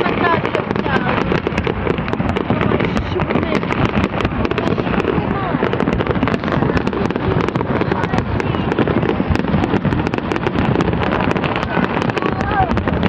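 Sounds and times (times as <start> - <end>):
fireworks cracks and bangs: 0.0 - 13.0.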